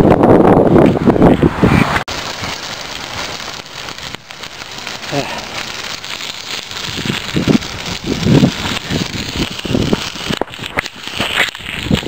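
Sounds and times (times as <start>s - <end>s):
wind buffeting microphone: 0.0s - 5.0s, 5.6s - 12.0s
bicycle tyres crunching on gravel: 1.8s - 12.0s.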